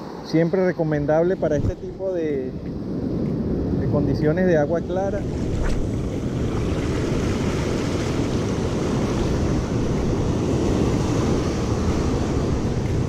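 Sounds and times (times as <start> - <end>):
ocean surf breaking on beach: 0.0 - 13.0
wind buffeting microphone: 1.3 - 13.0.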